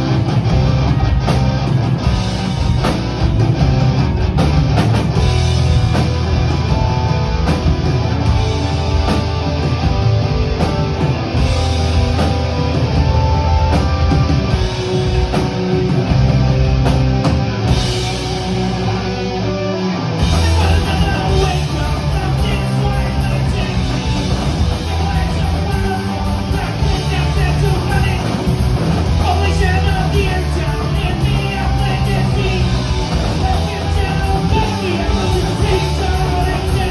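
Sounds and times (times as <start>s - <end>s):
bass guitar: 0.0s - 36.9s
distorted electric guitars: 0.0s - 36.9s
drum kit: 0.0s - 36.9s.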